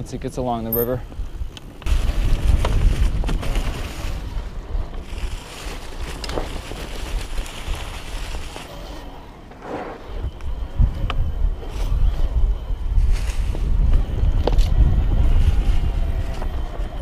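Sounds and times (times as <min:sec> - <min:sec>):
wind buffeting microphone: 0:00.0 - 0:08.6, 0:09.9 - 0:17.0.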